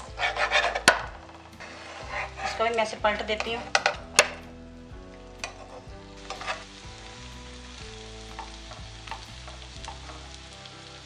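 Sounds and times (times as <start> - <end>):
flatbread sizzling in a frying pan: 0.0 - 11.0.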